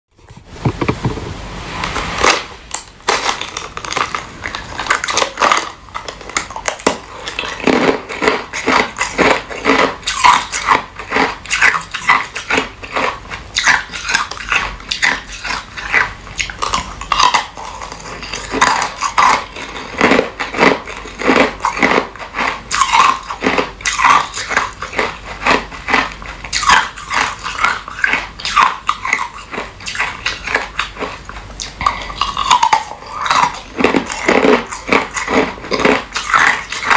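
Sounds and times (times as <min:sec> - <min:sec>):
ice being chewed: 0:02.2 - 0:36.9.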